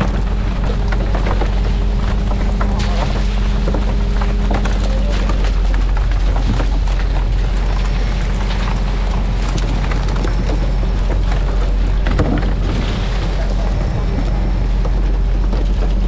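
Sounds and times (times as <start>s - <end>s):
boat engine rumbling: 0.0s - 16.0s
water splashing: 0.0s - 16.0s.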